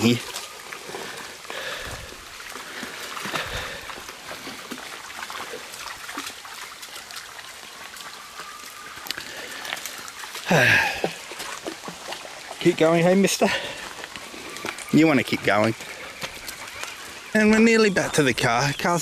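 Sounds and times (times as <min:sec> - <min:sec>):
creek water over rocks: 0:00.0 - 0:19.0.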